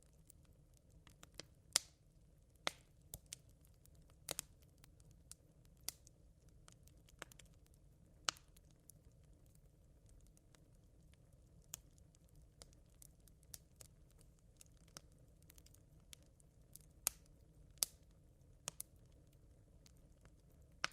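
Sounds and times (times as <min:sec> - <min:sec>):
campfire embers crackling: 0:00.0 - 0:20.9.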